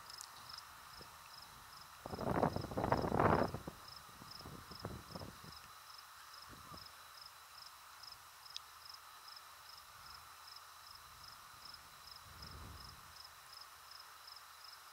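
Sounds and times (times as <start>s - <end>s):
insect chirping: 0.0s - 14.9s
soft steady hiss: 0.0s - 14.9s.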